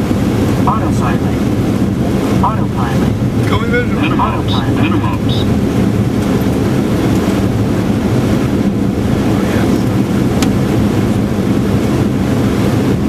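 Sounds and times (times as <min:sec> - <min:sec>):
airflow and engine rumble: 0:00.0 - 0:13.0.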